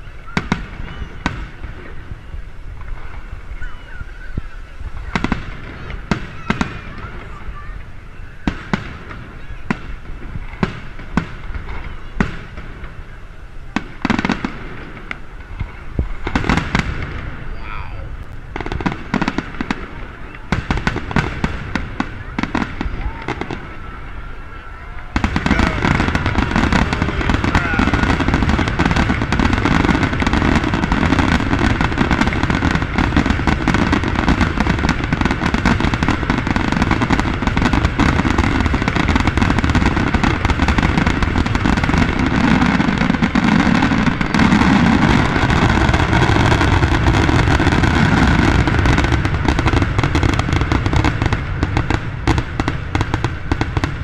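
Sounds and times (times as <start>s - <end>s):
fireworks cracking and booming: 0.0s - 54.0s.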